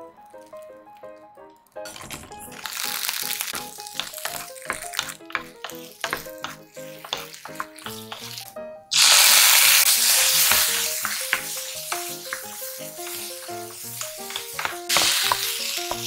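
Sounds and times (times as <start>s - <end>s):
wooden spatula stirring: 1.9s - 8.6s, 9.8s - 16.0s
loud sizzle of sauce: 2.4s - 16.0s
okra stir-frying in butter: 2.4s - 16.0s.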